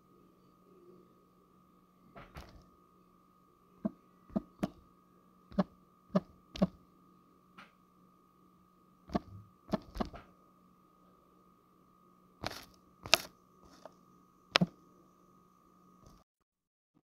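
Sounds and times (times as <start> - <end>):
faint electrical hum: 0.0 - 16.2.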